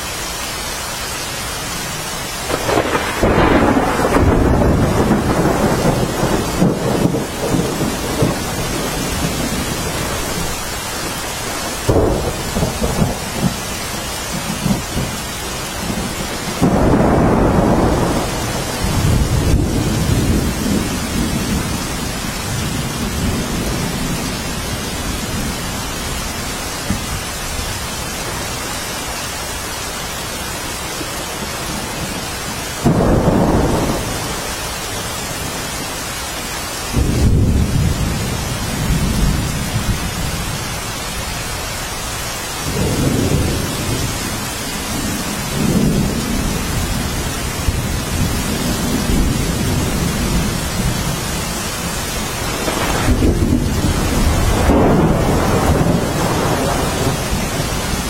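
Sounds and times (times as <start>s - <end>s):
steady rain hiss: 0.0s - 58.0s
thunder rumbling: 2.4s - 29.7s, 30.4s - 36.1s, 36.8s - 58.0s.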